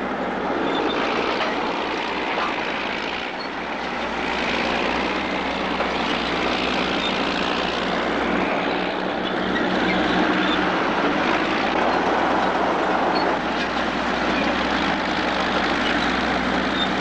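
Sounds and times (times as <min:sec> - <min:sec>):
bulldozer engine running: 0:00.0 - 0:17.0.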